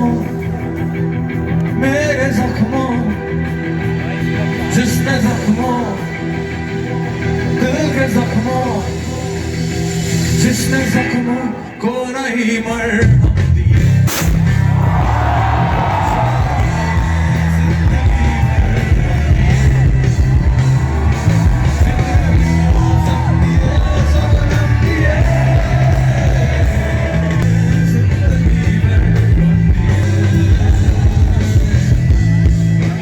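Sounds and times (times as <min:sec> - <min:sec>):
band with heavy beat: 0:00.0 - 0:11.5, 0:12.8 - 0:33.0.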